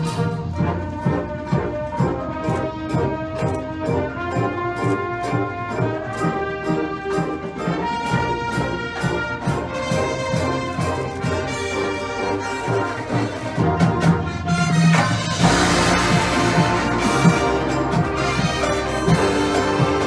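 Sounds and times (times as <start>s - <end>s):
brass section holding chords: 0.0s - 20.0s
drumline strikes: 0.0s - 20.0s.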